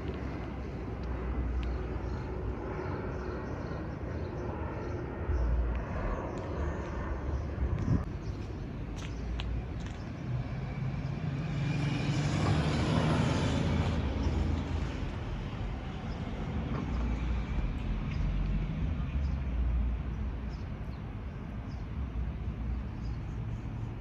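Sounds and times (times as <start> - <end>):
jet airliner rumble: 0.0 - 24.0.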